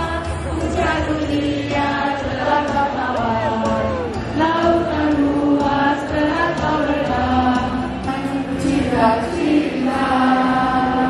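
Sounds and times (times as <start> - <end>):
group of voices singing: 0.0 - 11.0
music: 0.0 - 11.0.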